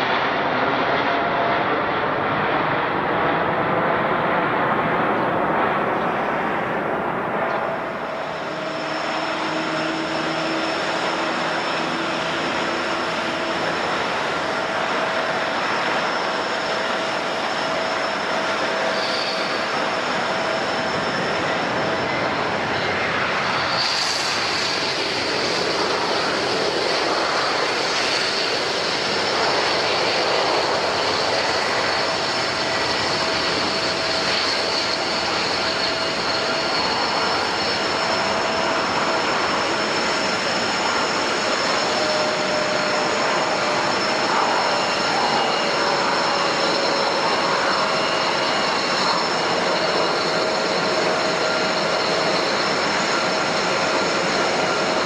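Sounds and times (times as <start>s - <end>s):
high steady engine whine: 0.0s - 55.0s
jet engines rushing: 0.0s - 55.0s.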